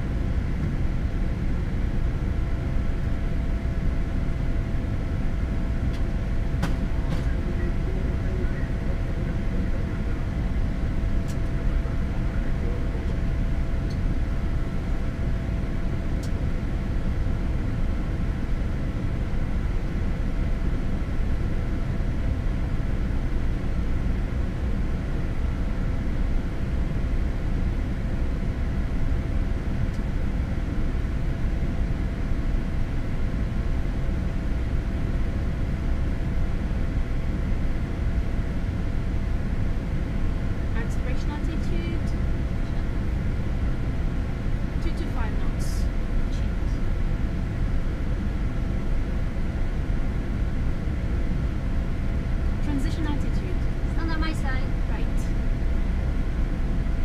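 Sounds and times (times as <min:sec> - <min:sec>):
airflow and engine rumble: 0:00.0 - 0:57.0
faint steady hum: 0:00.0 - 0:57.0.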